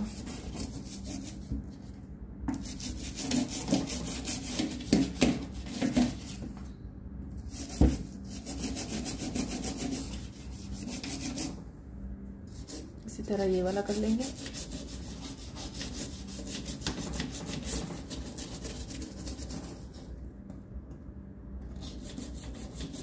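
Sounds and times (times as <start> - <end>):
toothbrush scrubbing steel stovetop: 0.0 - 1.9, 2.5 - 6.4, 7.4 - 11.6, 12.5 - 20.2, 21.7 - 23.0.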